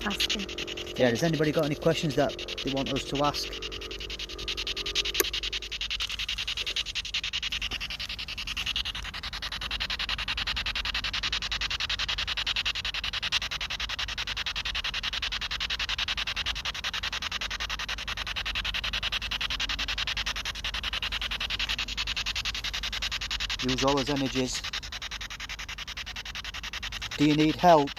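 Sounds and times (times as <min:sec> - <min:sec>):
fluttering static hiss: 0:00.0 - 0:27.9.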